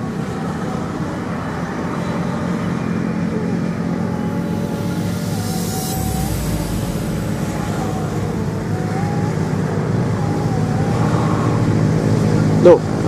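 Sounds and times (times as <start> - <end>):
faint wavering whine: 0.0 - 12.5
engine humming: 0.0 - 13.0.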